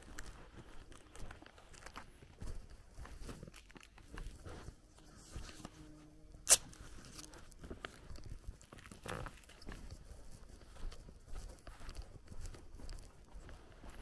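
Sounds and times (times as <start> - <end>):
footsteps through grass: 0.0 - 14.0.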